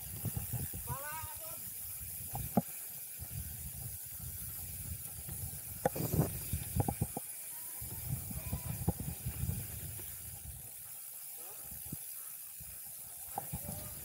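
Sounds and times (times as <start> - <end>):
bike tyres on dirt: 0.0 - 14.0.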